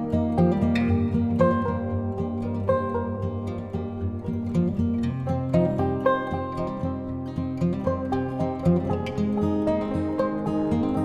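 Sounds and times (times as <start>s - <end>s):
plucked guitar-like music: 0.0s - 11.0s.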